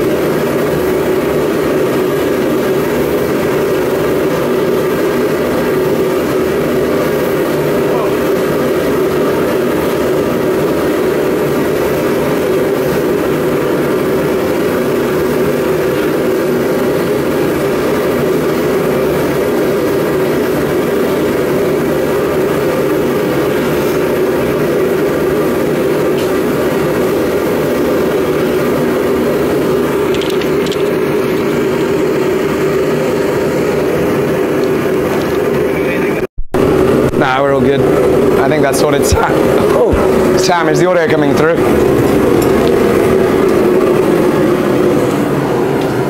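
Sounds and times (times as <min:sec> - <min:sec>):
forge burner rushing: 0:00.0 - 0:46.0
low hum: 0:00.0 - 0:46.0.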